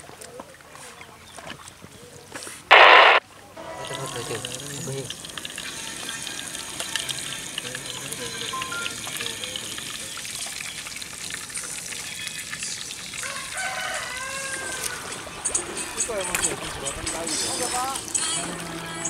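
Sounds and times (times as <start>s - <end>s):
hot oil sizzling and crackling: 2.7s - 19.0s.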